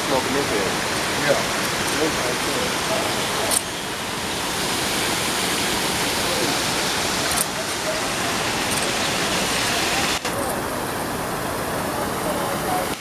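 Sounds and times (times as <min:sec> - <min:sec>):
faint voices: 0:00.0 - 0:13.0
fountain water splashing: 0:00.0 - 0:13.0.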